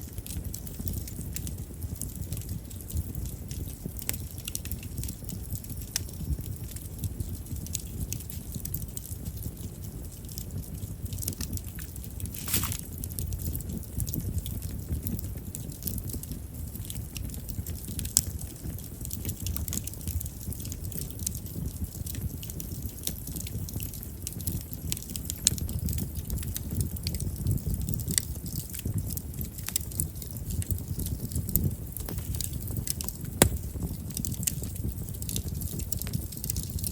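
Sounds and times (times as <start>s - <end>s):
campfire flame rumble: 0.0s - 36.9s
fire crackling and popping: 0.0s - 36.9s.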